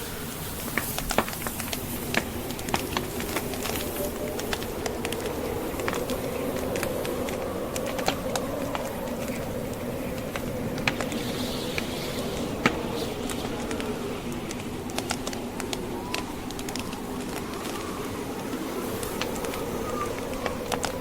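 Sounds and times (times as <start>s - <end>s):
rushing wind of snowstorm: 0.0s - 21.0s
wood fire crackling and popping: 0.0s - 21.0s.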